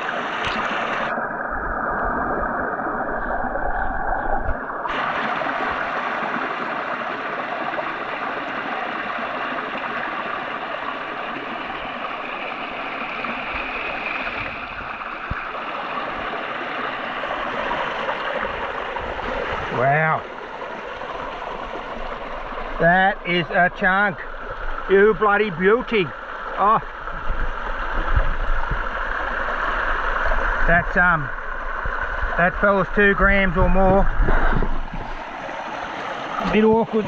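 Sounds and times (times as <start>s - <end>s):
creek water rushing over waterfall: 0.0s - 37.0s.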